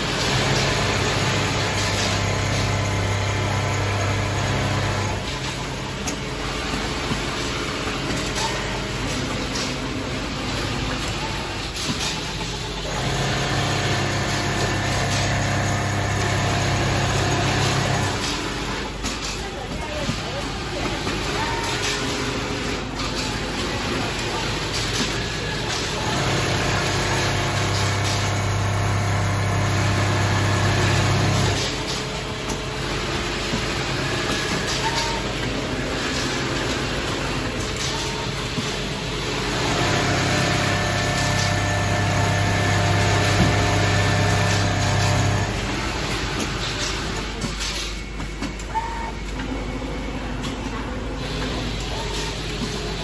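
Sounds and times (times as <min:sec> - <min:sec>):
sewing machine humming: 0:00.0 - 0:19.0, 0:21.2 - 0:47.4.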